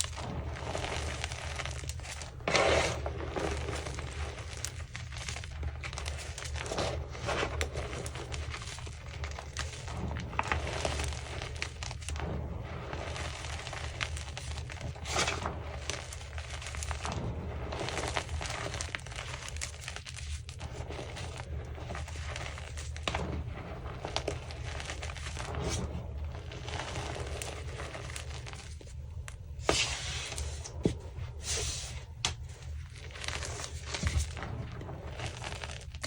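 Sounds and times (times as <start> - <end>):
chalk crunching and crackling: 0.0 - 36.0.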